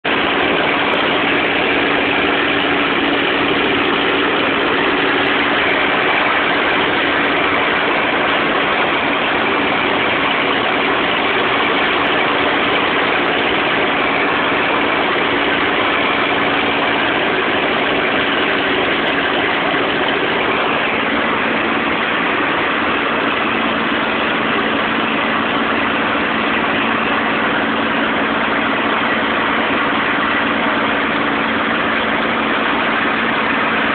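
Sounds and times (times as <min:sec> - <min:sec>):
aircraft engine drone: 0:00.1 - 0:33.9.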